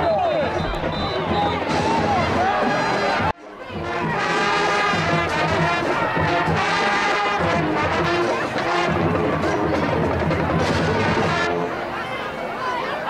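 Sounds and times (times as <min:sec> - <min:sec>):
brass band music: 0:00.1 - 0:12.0.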